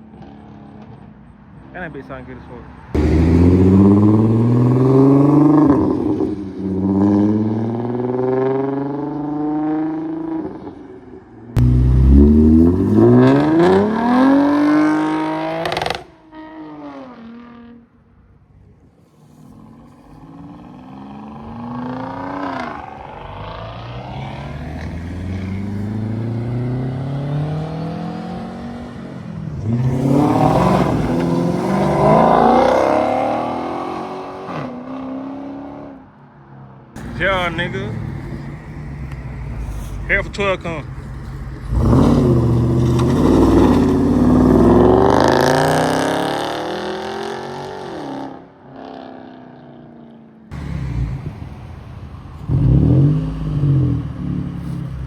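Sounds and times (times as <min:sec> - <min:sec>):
car engine revving: 0:03.0 - 0:10.6, 0:11.6 - 0:17.8, 0:19.4 - 0:35.9, 0:37.0 - 0:49.2, 0:50.5 - 0:55.0.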